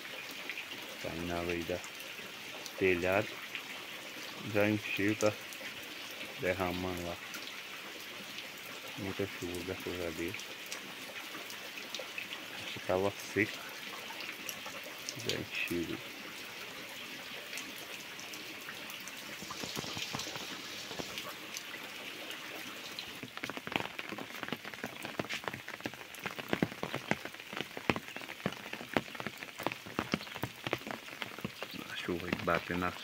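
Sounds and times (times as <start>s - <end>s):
heavy rain falling: 0.0s - 33.0s
raindrops hitting leaves: 0.0s - 33.0s.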